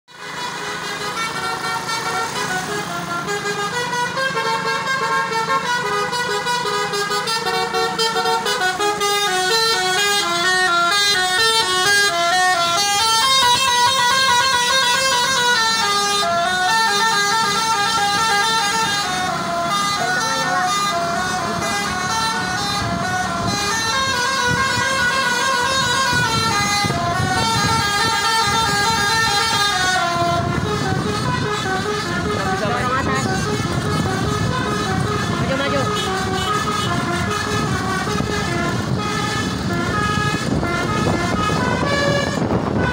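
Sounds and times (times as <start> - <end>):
multi-tone bus horn melody: 0.1 - 42.9.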